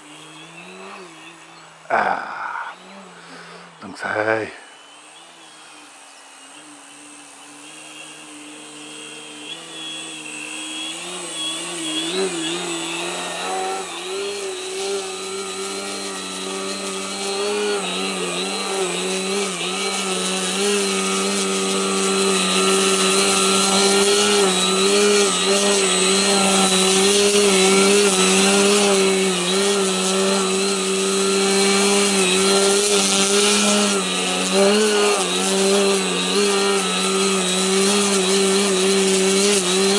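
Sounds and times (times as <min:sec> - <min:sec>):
model plane electric motor drone: 0:00.0 - 0:39.9.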